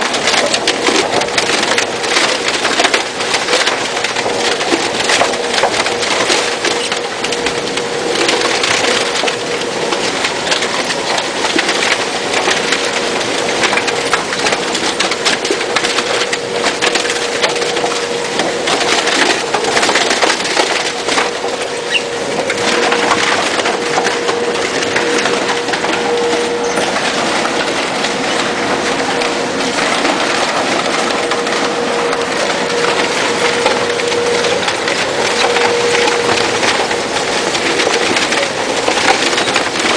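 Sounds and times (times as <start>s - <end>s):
steady motor hum: 0.0s - 39.9s
styrofoam crackling and snapping: 0.0s - 39.9s.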